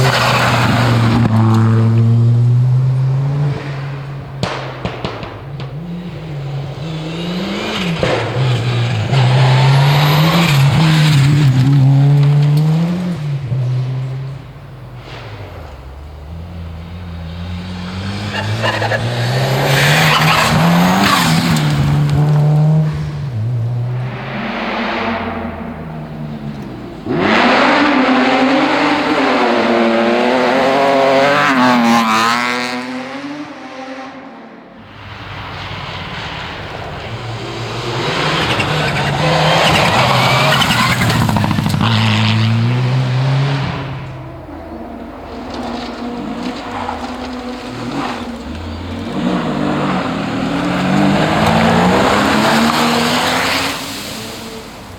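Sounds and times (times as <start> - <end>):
rally car engine at full throttle: 0.0 - 54.9.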